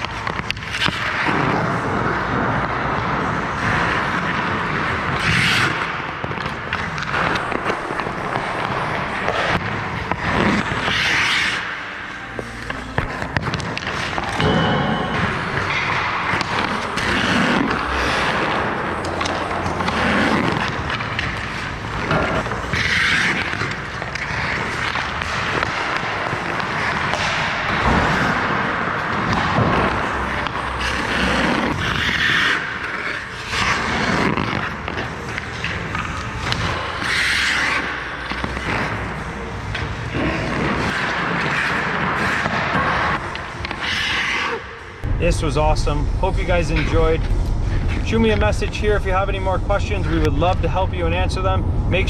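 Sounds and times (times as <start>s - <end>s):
skate blades scraping ice: 0.0s - 45.0s.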